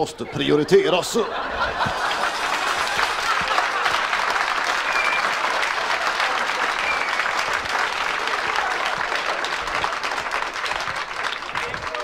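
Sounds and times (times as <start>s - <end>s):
audience applauding: 1.8s - 12.0s.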